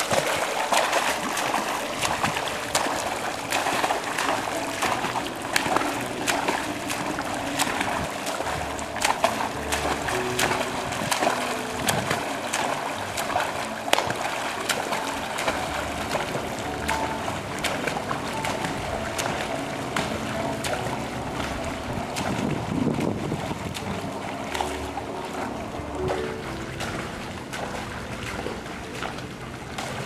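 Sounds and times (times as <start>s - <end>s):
arms splashing pool water: 0.0s - 30.0s
wash of churned water: 0.0s - 30.0s.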